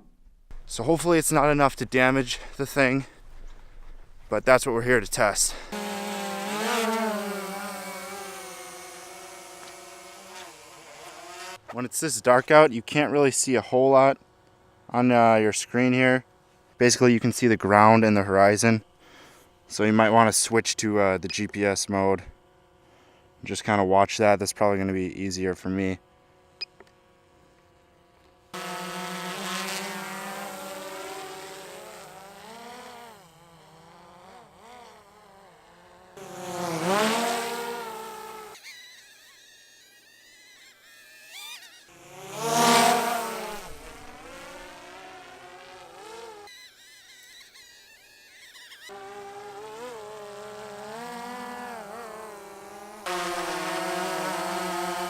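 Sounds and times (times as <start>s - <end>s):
quadcopter propellers buzzing: 0.6s - 55.0s.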